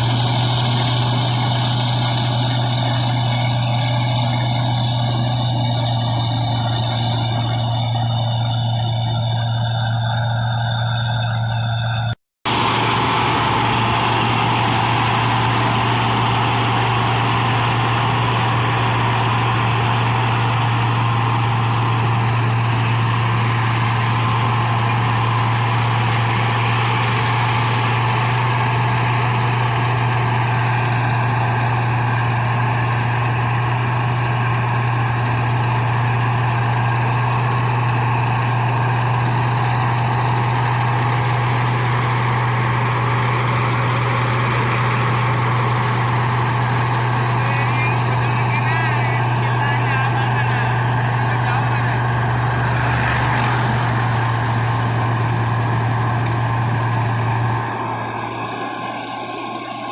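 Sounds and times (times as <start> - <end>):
harvester engine droning: 0.0 - 59.9.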